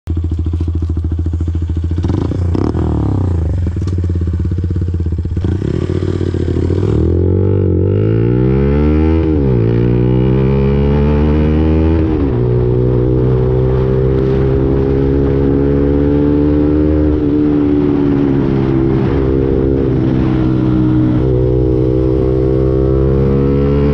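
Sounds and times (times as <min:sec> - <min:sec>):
motorcycle engine idling and revving: 0:00.0 - 0:23.9
motorcycle accelerating away: 0:00.2 - 0:23.9.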